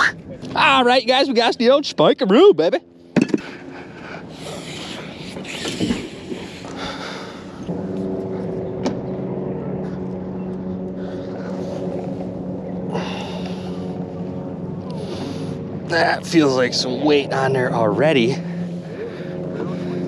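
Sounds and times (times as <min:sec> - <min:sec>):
motor running at steady pitch: 0:01.4 - 0:20.0.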